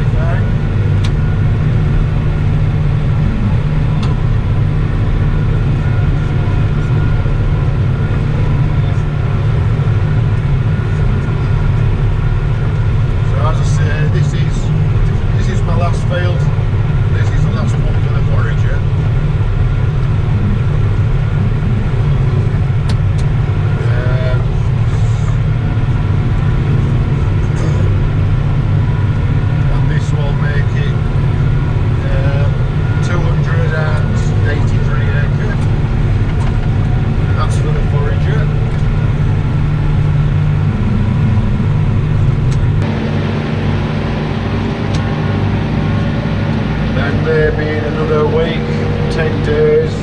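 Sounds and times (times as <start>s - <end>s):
tractor engine droning: 0.0s - 50.0s.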